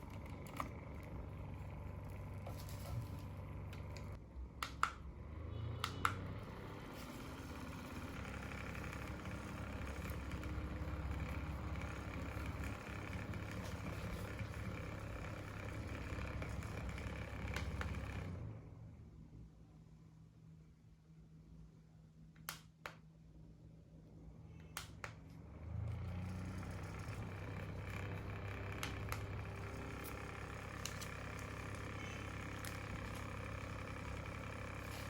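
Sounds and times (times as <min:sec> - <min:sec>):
small fan whirring: 0:00.0 - 0:19.1, 0:22.3 - 0:35.0.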